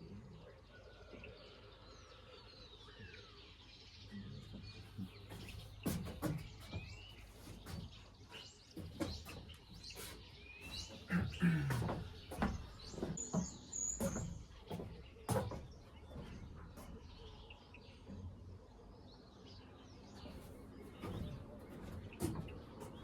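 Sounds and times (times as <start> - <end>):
birds calling and chirping: 0.0 - 23.0.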